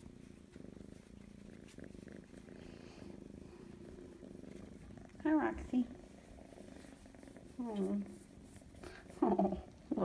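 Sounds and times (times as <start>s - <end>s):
kitten purring: 0.0s - 10.0s.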